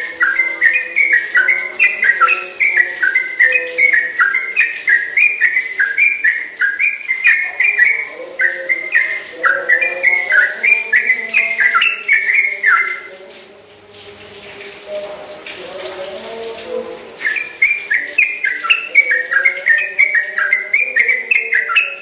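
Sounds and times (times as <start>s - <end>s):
bird singing whistled notes: 0.0s - 13.1s, 17.2s - 22.0s.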